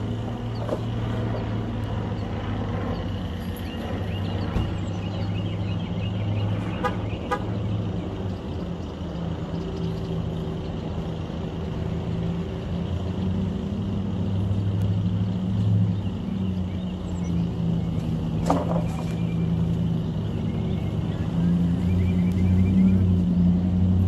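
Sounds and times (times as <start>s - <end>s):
vehicle hum on road: 0.0s - 24.0s.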